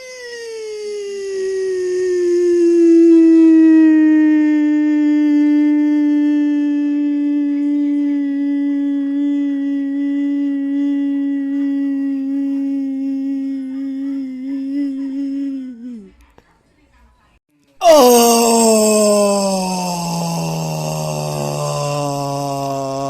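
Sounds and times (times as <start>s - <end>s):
person holding a long note: 2.6s - 16.1s, 17.8s - 23.0s.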